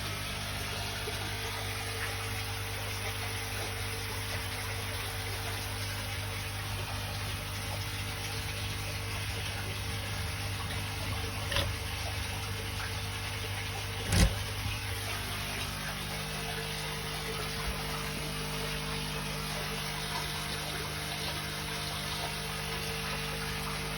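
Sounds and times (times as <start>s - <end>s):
pump hum: 0.0s - 23.9s
running water: 0.0s - 23.9s.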